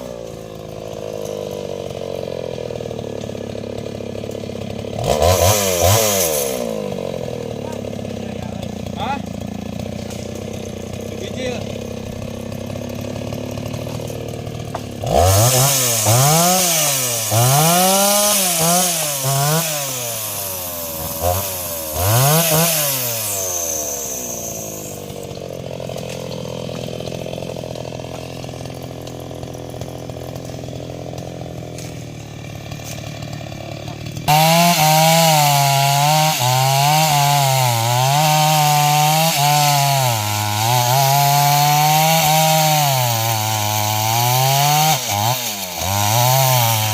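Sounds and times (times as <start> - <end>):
chainsaw cutting wood: 0.0 - 46.9
chainsaw revving and idling: 0.0 - 46.9.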